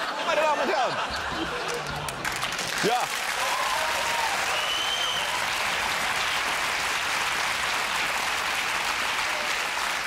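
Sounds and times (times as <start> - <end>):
audience applauding: 1.1 - 10.0.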